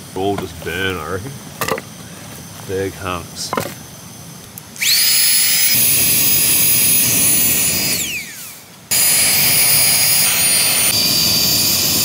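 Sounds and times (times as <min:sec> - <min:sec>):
air pump motor whine: 0:00.0 - 0:12.0.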